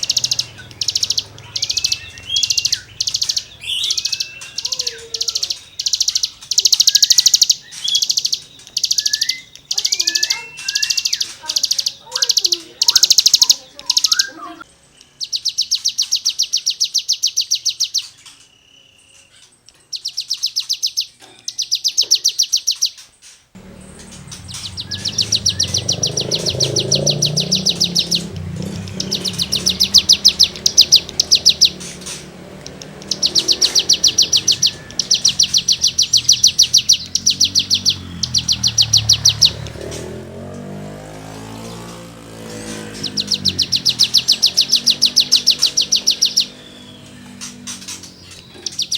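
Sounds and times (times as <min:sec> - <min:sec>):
songbird rasping trills: 0:00.0 - 0:48.9.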